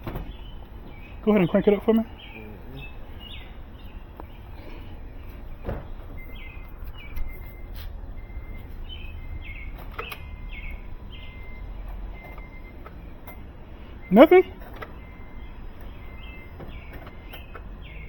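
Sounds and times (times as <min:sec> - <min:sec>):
birds chirping: 0:00.0 - 0:18.0
low outdoor rumble: 0:00.0 - 0:18.0.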